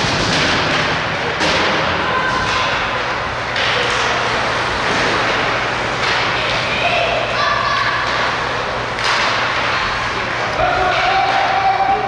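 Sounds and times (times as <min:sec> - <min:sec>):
ice rink noisy rush: 0:00.0 - 0:12.0.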